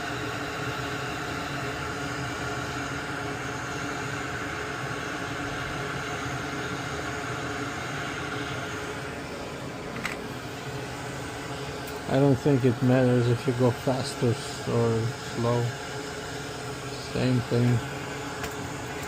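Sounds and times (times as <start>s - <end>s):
bench tool fan whirring: 0.0s - 19.0s.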